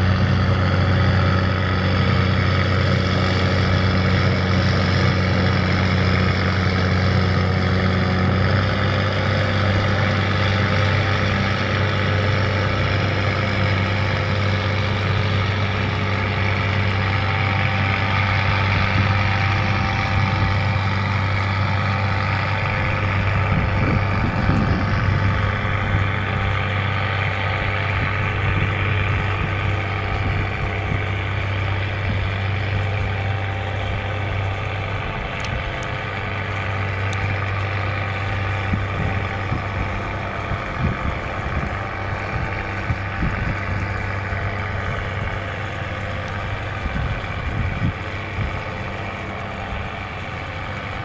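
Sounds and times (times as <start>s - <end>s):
diesel engine humming: 0.0s - 51.0s.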